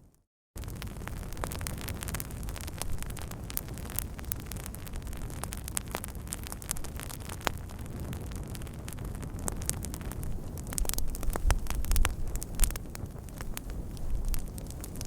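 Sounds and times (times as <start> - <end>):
low rushing fire rumble: 0.6 - 15.0
wood fire pops and snaps: 0.6 - 15.0.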